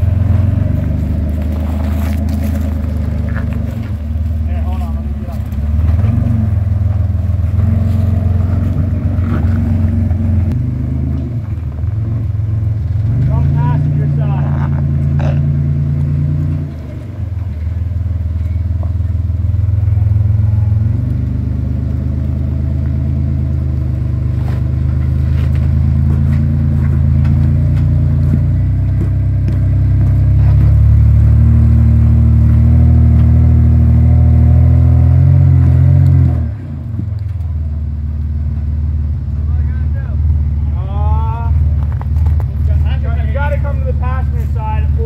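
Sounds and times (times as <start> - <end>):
truck engine under load: 0.0 - 45.0.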